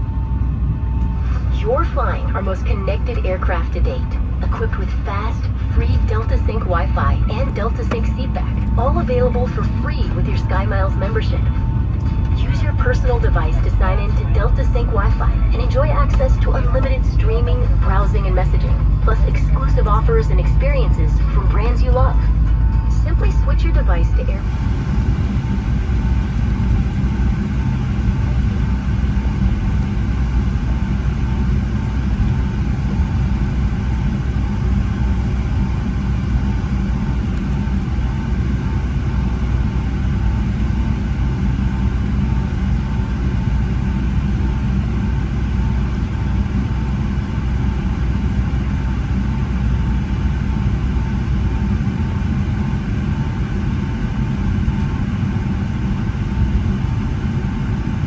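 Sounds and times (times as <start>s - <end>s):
faint pulsing tone: 0.0s - 58.0s
jet engine cabin rumble: 0.0s - 58.0s
steady whine: 0.0s - 58.0s.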